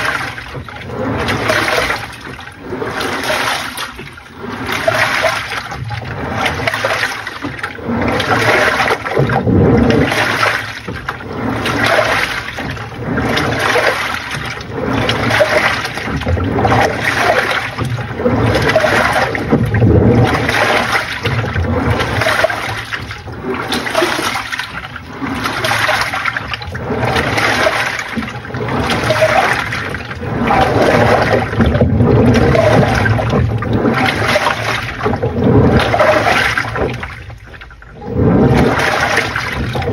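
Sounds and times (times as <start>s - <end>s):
washing machine water sloshing: 0.0s - 39.9s.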